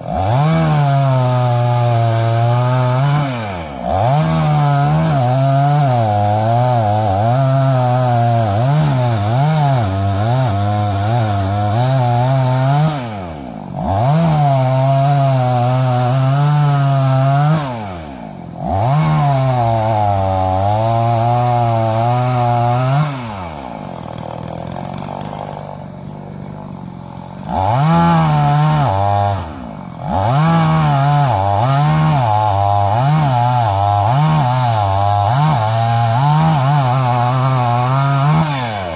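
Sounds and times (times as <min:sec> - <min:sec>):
chainsaw cutting wood: 0:00.0 - 0:38.9
chainsaw idling: 0:00.0 - 0:38.9.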